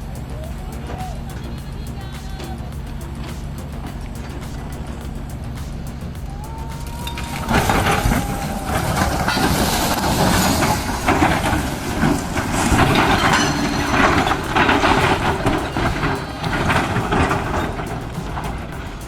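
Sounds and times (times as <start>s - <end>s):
heavy machinery engine running: 0.0s - 19.0s
irregular knocking and clatter: 0.0s - 19.0s.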